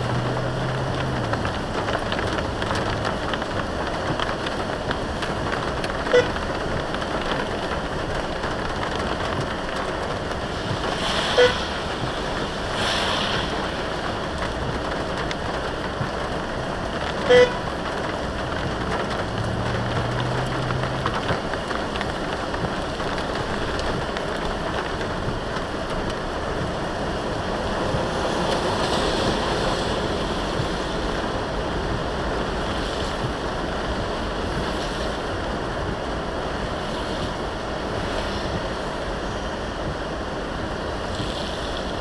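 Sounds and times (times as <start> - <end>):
heavy rain: 0.0 - 42.0
tyres on wet road: 0.0 - 42.0.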